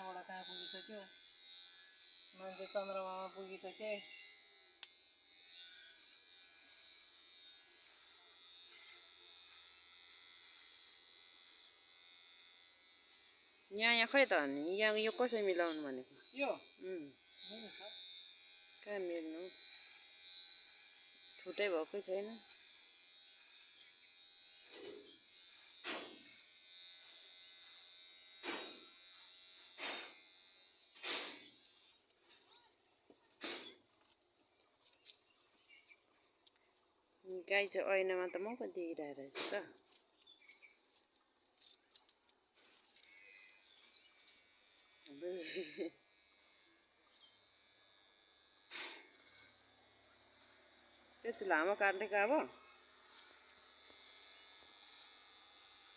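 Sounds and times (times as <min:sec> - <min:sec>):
electric hair clipper buzzing: 0:00.0 - 0:55.9.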